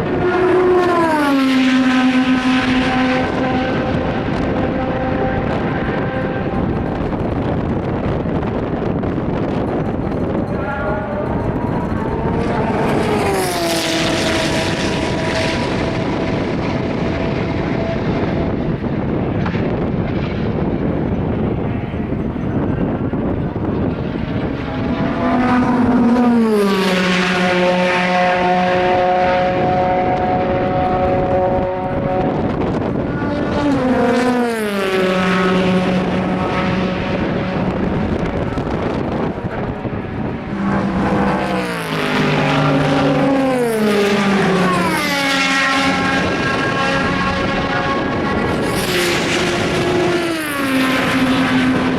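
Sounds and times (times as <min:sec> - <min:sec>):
race car passing at speed: 0:00.0 - 0:51.9
steady engine drone: 0:00.0 - 0:51.9.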